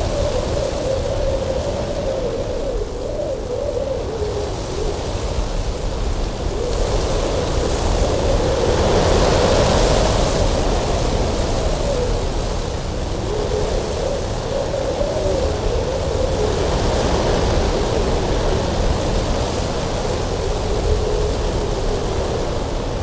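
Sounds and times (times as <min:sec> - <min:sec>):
moaning wind whistle: 0:00.0 - 0:23.0
strong wind blowing: 0:00.0 - 0:23.0.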